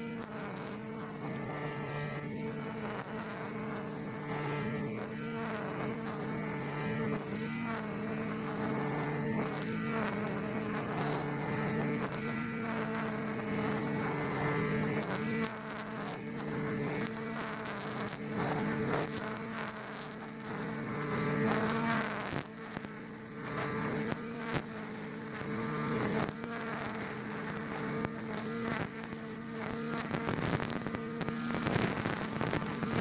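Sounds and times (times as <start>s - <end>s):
brush cutter engine buzzing: 0.0s - 33.0s.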